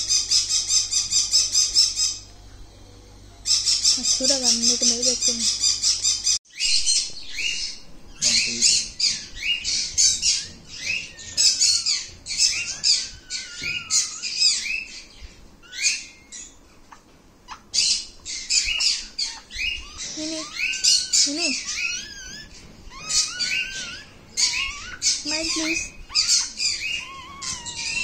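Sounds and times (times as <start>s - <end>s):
animal chirping squeaks: 3.4s - 28.0s.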